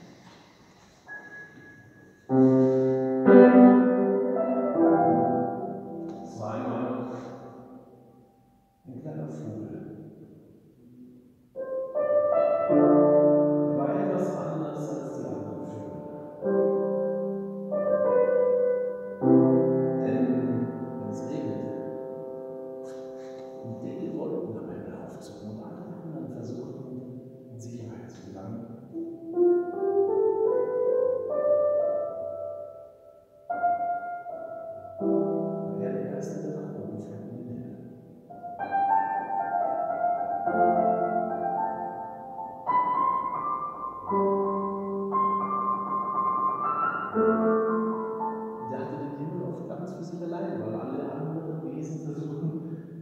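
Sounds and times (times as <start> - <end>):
piano chords: 0.0 - 53.0.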